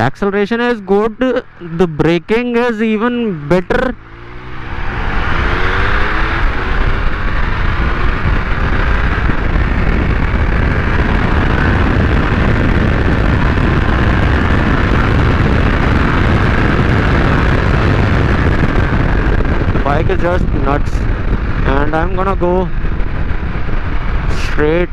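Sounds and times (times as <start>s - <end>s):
wind rush: 0.0s - 24.9s
motorcycle engine accelerating: 0.9s - 24.9s.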